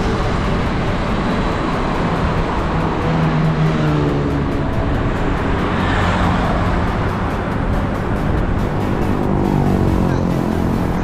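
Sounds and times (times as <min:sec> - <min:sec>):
passing motor vehicle engine: 0:00.0 - 0:11.0
road traffic: 0:00.0 - 0:11.0
wind rushing over microphone: 0:00.0 - 0:11.0.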